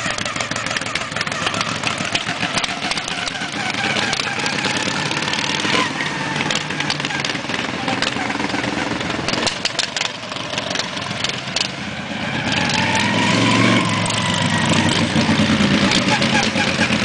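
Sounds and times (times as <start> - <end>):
lawn mower engine running hard: 0.0 - 17.0.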